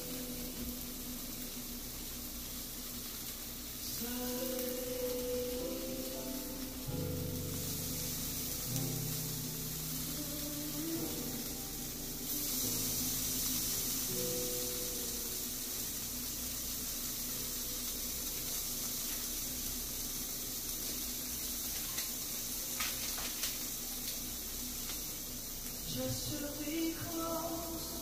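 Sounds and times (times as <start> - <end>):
kabobs sizzling on grill: 0.0 - 28.0.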